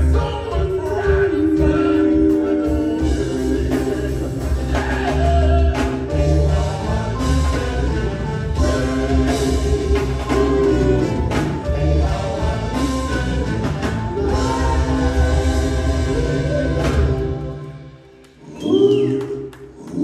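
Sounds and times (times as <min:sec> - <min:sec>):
band with drums keyboard guitars horns: 0:00.0 - 0:19.4
soul vocal group singing: 0:00.0 - 0:20.0.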